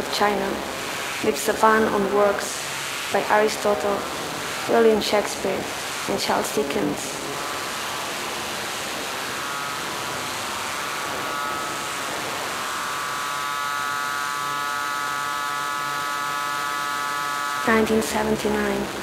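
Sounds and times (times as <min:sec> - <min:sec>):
drone of high tones: 0:03.1 - 0:19.0.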